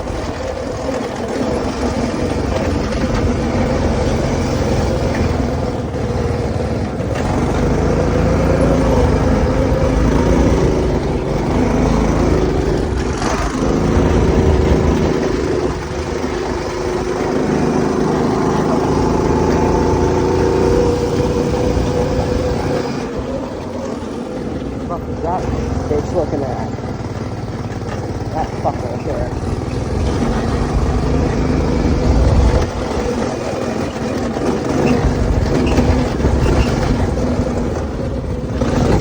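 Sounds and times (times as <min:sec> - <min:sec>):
go-kart engine running hard: 0:00.0 - 0:39.0.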